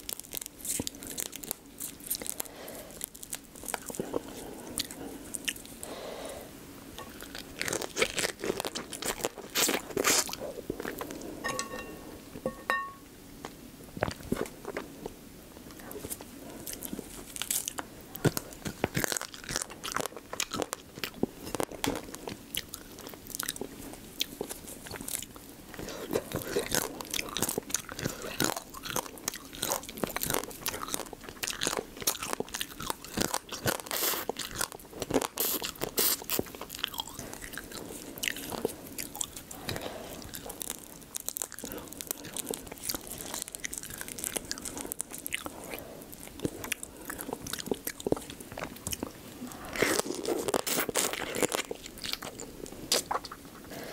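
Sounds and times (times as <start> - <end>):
crab shells crunching while eating: 0.0 - 6.4, 7.0 - 12.1, 14.0 - 53.9.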